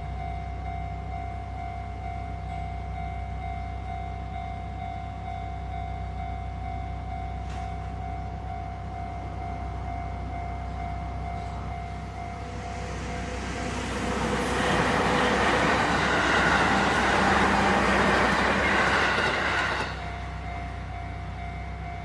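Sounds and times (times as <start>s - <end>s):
crossing warning bell ringing: 0.0s - 22.0s
train passing: 1.5s - 22.0s.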